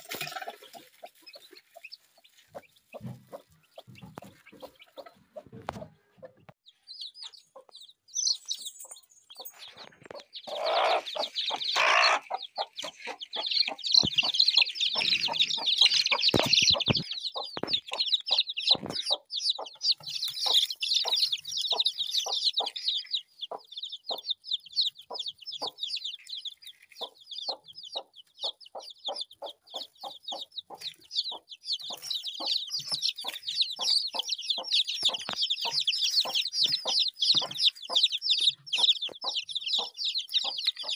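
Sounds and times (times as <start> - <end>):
chickens calling: 0.0 - 40.9
chickens clucking: 0.0 - 40.9.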